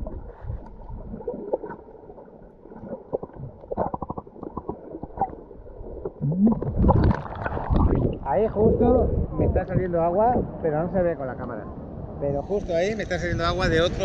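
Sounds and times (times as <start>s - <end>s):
muffled water gurgling and sloshing: 0.0s - 14.0s.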